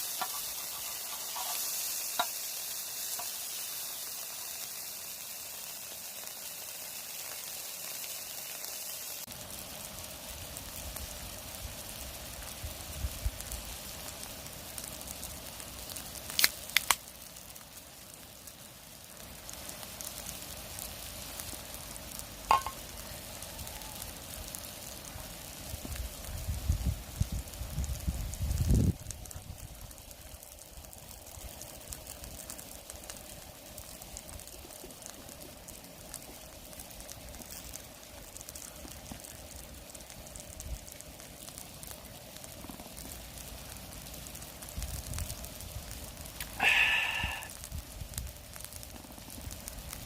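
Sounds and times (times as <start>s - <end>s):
meat sizzling on a griddle: 0.0s - 50.0s.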